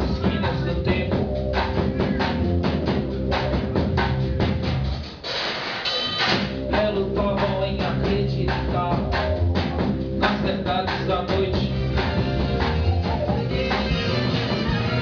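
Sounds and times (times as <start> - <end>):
rock band playing live: 0.0 - 5.2, 5.9 - 15.0
drum kit: 0.0 - 15.0.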